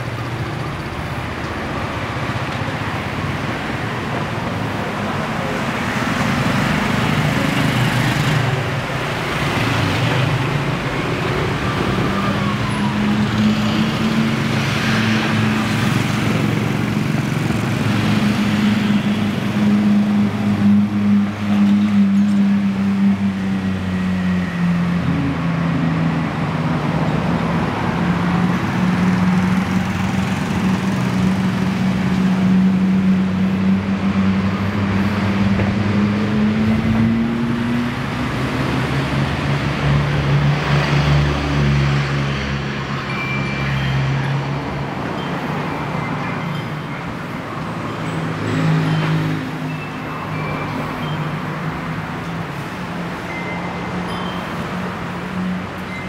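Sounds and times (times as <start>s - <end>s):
vehicle engines passing: 0.0s - 56.0s.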